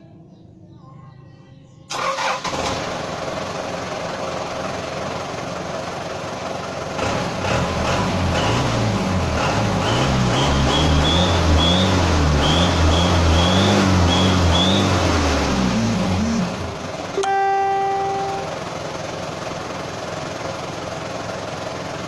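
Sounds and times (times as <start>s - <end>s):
diesel engine starting and revving: 1.9s - 17.2s, 18.1s - 22.0s.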